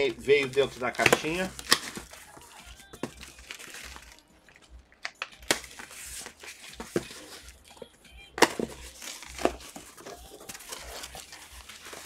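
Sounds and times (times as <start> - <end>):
cardboard and tape rustling: 0.0 - 4.2, 5.0 - 12.0.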